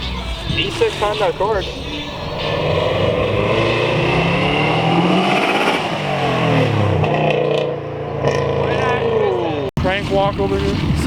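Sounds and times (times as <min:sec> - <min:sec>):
car engine accelerating: 0:00.7 - 0:11.0.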